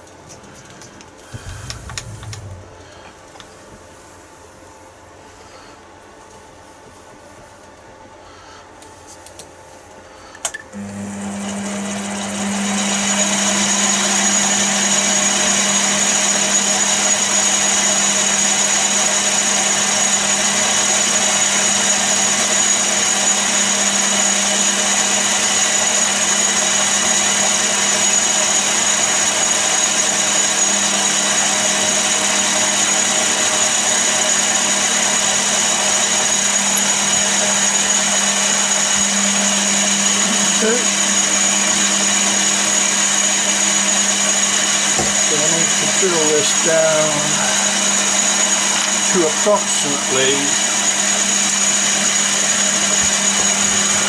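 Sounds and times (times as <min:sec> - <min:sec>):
lathe motor humming and whining: 0:01.1 - 0:04.2, 0:10.7 - 0:54.0.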